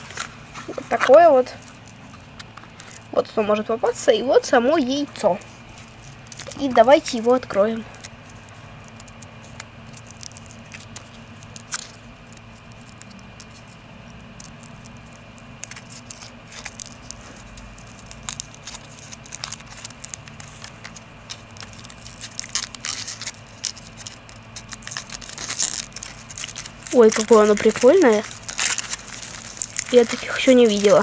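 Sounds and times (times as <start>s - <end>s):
foil wrapper crinkling: 0.0s - 31.0s.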